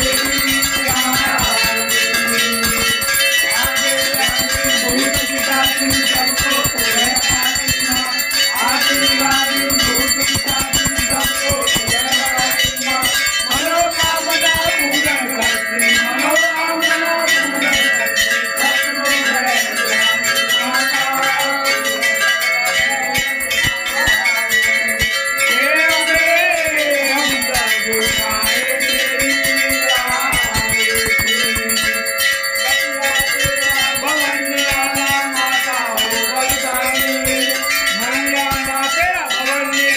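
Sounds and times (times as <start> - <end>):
crowd singing together: 0.0 - 39.9
temple bells ringing rapidly: 0.0 - 39.9.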